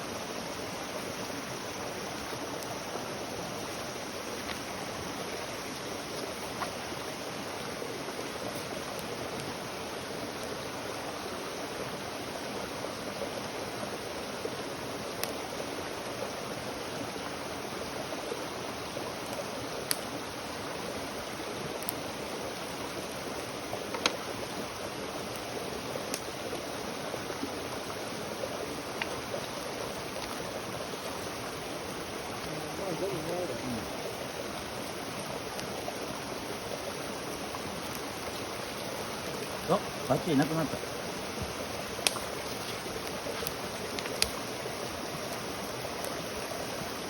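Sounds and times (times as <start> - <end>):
campfire crackling and popping: 0.0 - 47.0
steady rushing hiss: 0.0 - 47.0.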